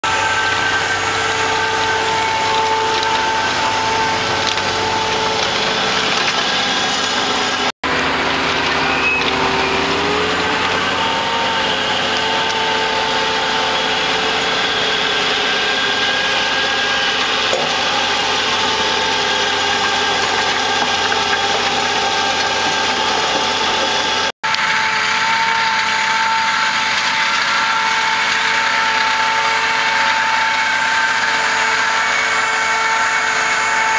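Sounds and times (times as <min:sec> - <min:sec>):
machinery whine: 0:00.0 - 0:33.9
tractor engine and machinery: 0:00.0 - 0:33.9.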